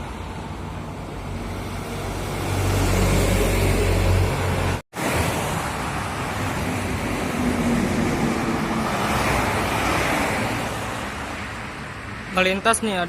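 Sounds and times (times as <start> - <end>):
highway traffic roar: 0.0 - 13.0.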